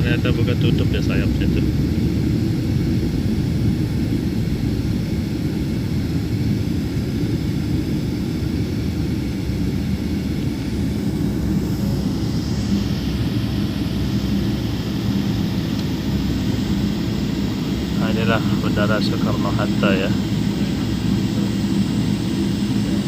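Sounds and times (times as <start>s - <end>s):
jet engine rumble in cabin: 0.0s - 23.0s.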